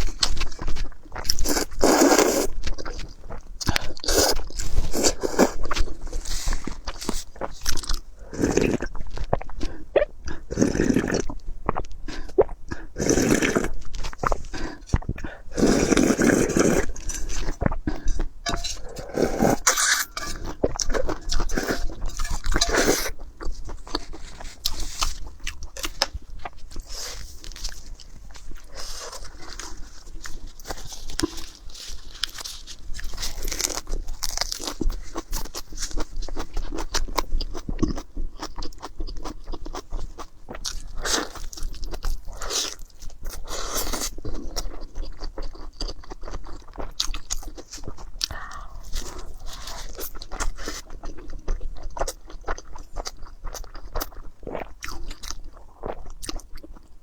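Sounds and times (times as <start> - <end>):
person crunching and chewing food: 0.0 - 57.0.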